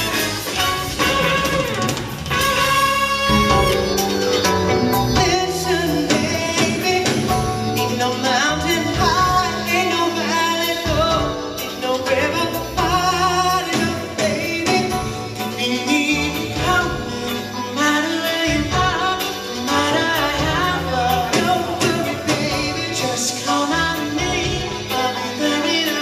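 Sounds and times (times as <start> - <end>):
live band with drums: 0.0 - 26.0
male vocal group singing: 5.1 - 26.0.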